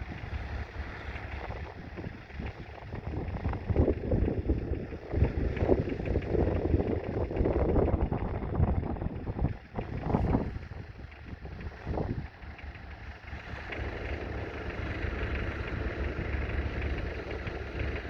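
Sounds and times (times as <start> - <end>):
tractor diesel engine running: 0.0 - 18.0
wind buffeting microphone: 0.0 - 18.0.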